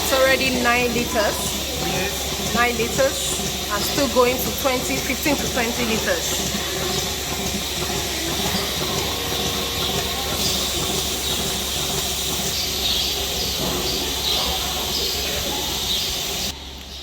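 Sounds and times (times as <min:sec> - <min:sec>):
milking machine hissing: 0:00.0 - 0:17.0.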